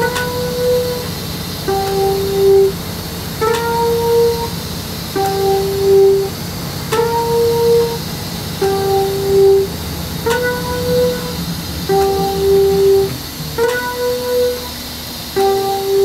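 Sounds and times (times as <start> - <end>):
two-note tone: 0.0 - 2.8, 3.4 - 16.0
steady low hum: 0.0 - 16.0.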